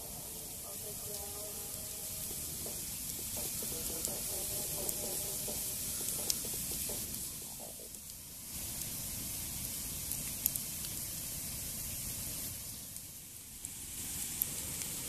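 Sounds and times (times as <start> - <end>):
campfire crackles: 0.0 - 15.0
campfire hissing: 0.0 - 15.0.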